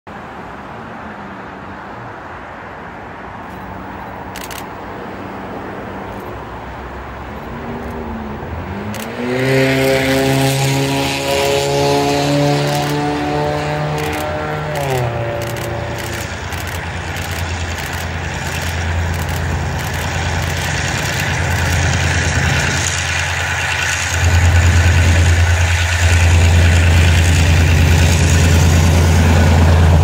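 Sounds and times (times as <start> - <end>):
locomotive engine drone: 3.4 - 30.0
train wheels rushing on rails: 3.5 - 30.0.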